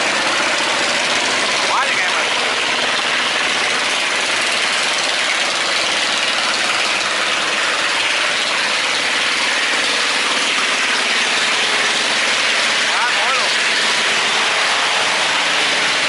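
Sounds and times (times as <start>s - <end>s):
motor boat engine running: 0.0s - 16.0s.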